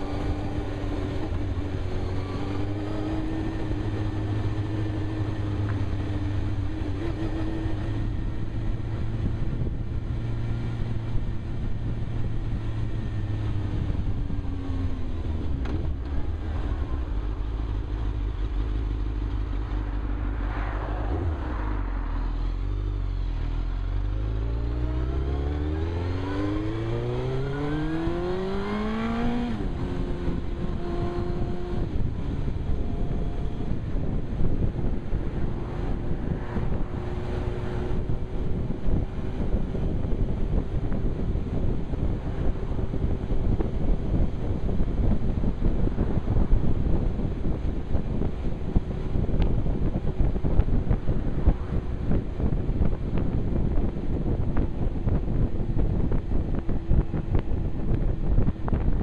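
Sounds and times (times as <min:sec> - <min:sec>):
motorcycle engine revving: 0:00.0 - 0:20.5, 0:21.1 - 0:59.0.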